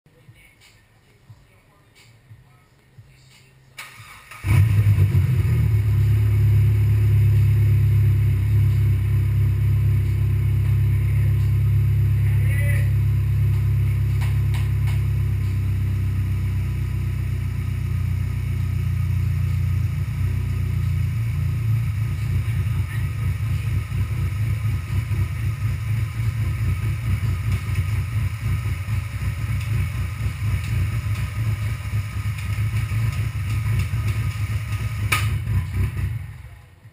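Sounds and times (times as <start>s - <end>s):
engine running: 4.0s - 36.9s.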